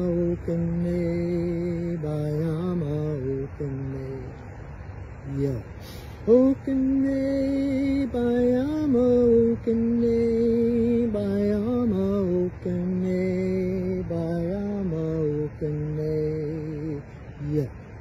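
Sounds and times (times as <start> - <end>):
man chanting in long held notes: 0.0 - 18.0.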